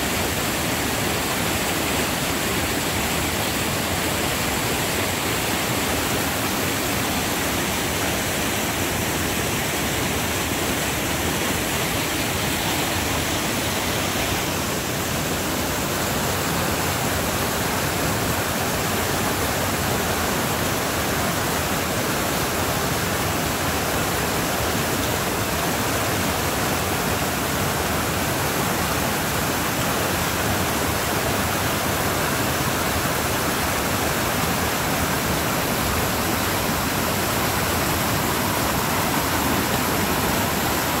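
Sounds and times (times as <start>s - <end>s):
creek rushing through rapids: 0.0s - 41.0s.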